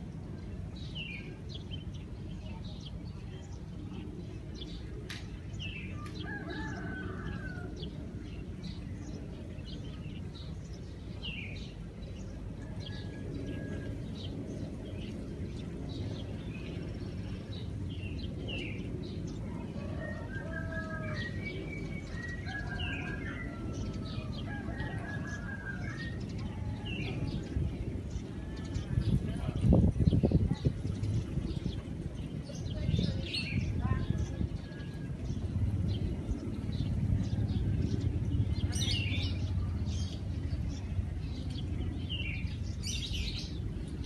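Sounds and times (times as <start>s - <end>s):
birds chirping: 0.0s - 44.0s
low city hum: 0.0s - 44.0s.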